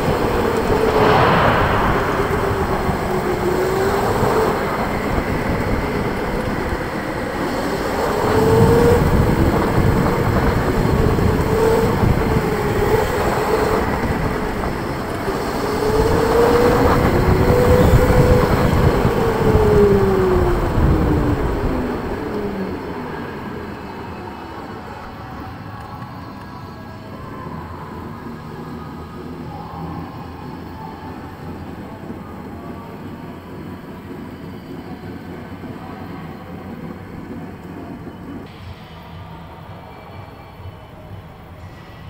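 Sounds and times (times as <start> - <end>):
kart rumbling on concrete: 0.0 - 26.4, 27.0 - 38.6.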